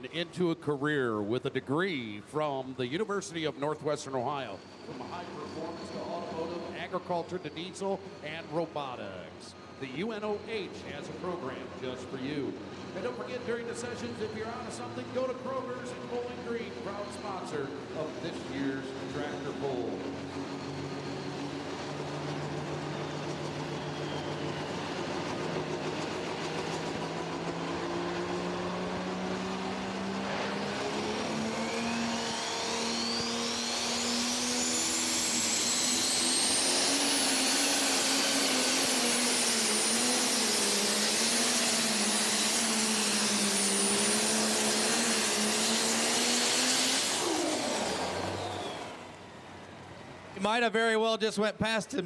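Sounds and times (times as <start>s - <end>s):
turbocharger whine: 0.0s - 50.7s
tractor diesel engine: 1.8s - 50.5s.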